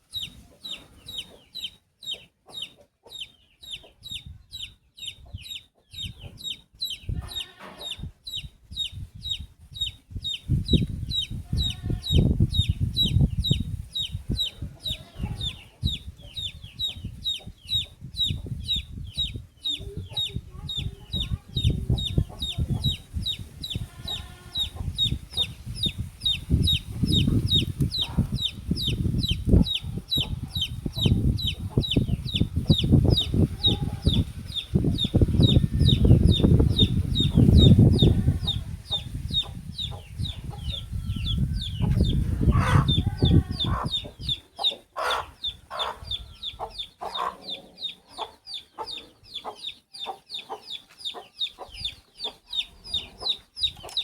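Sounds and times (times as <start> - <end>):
baby chick peeping: 0.0 - 54.0.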